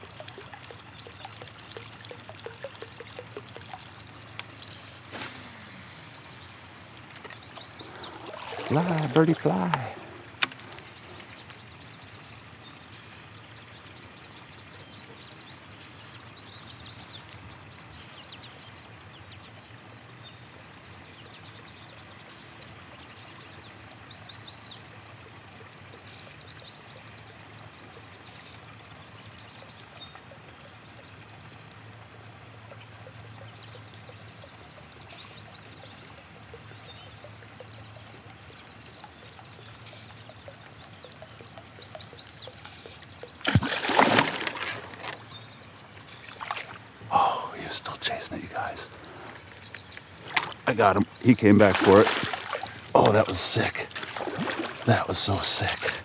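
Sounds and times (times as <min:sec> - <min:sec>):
flowing river: 0:00.0 - 0:56.0
songbirds trilling: 0:00.0 - 0:56.0.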